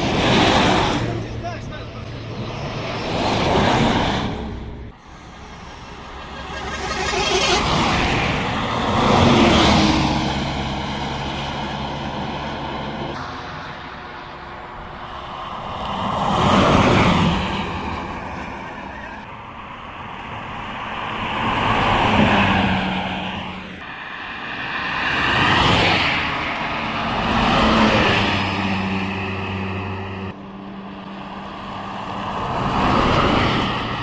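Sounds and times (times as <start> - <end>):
buses passing at speed: 0.0 - 34.0.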